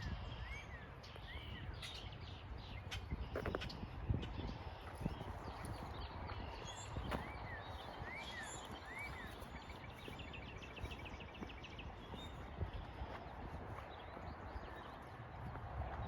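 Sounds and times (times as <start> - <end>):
low rumble of wind: 0.0 - 16.0
songbird calling and trilling: 0.0 - 16.0.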